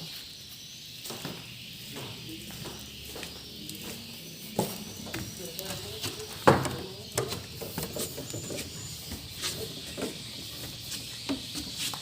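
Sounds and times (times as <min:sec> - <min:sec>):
high bird chirps: 0:00.0 - 0:12.0.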